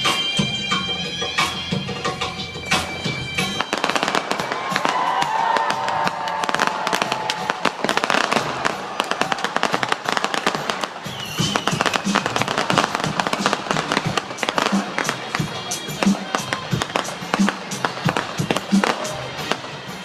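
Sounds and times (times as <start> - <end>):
firecrackers going off: 2.8 - 20.0.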